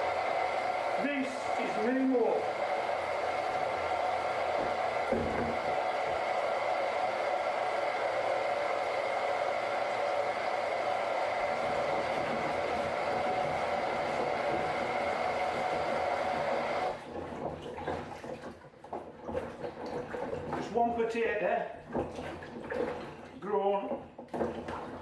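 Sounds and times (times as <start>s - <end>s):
tap running water: 0.0s - 25.0s.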